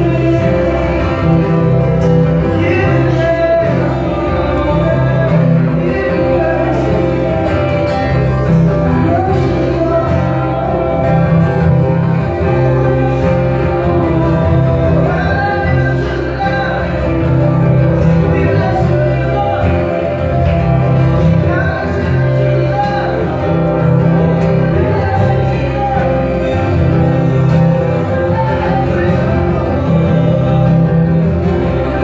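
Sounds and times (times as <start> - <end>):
person singing: 0.0 - 32.0
worship band playing slow song: 0.0 - 32.0.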